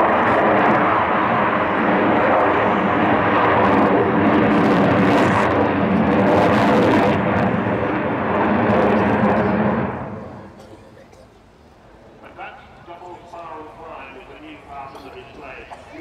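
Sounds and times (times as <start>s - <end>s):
loud jet engine noise: 0.0s - 16.0s.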